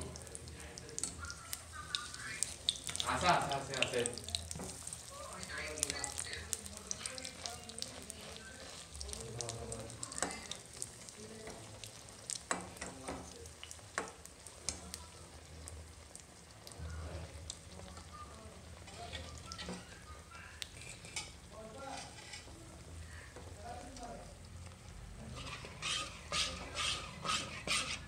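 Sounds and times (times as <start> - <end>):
batter sizzling in hot oil: 0.0 - 28.0.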